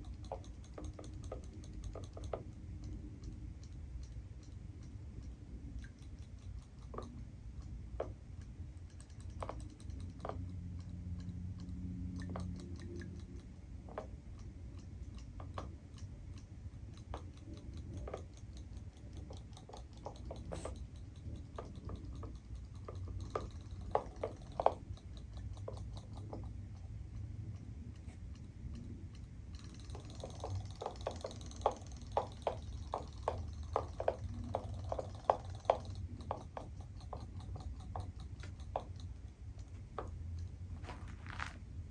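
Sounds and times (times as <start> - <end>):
toy fish clicking: 0.0 - 40.6
low steady hum: 0.0 - 41.9.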